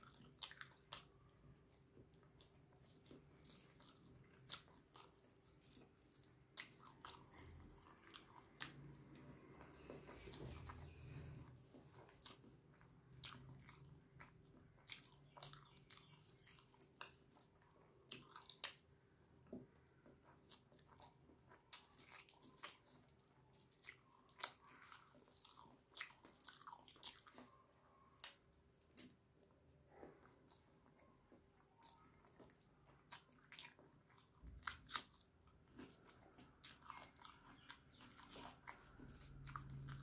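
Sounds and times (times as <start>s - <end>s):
person chewing wetly: 0.0s - 40.0s.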